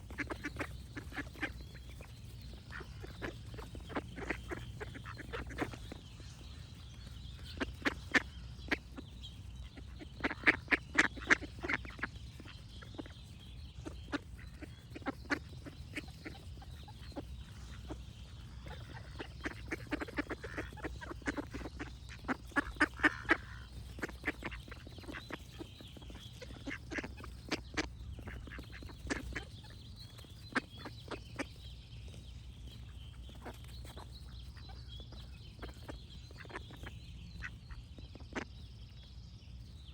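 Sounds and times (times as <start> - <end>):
ducks quacking: 0.0 - 38.7
faint birdsong: 0.0 - 39.9.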